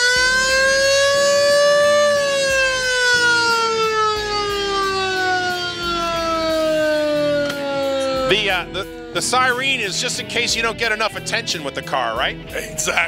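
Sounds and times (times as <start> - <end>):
car siren wailing: 0.0 - 11.2.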